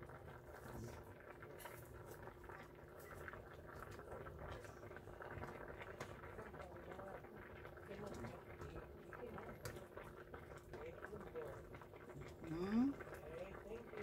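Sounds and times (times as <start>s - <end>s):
pot of broth bubbling: 0.0s - 14.0s.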